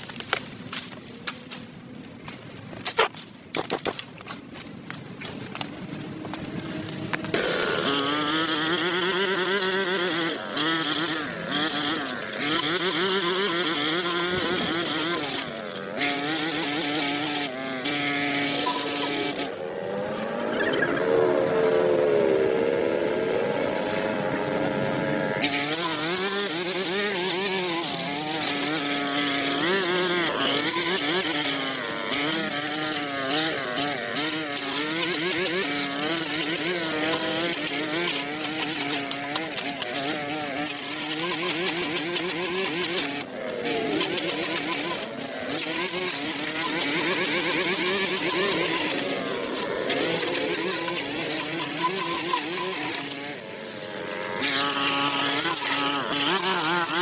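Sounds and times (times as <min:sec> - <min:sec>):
engine running: 0:04.6 - 0:57.0.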